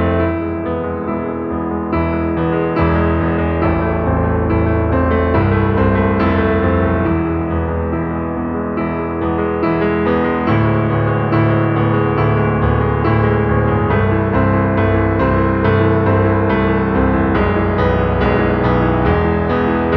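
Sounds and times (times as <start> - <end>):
piano melody over bass line: 0.0 - 19.9.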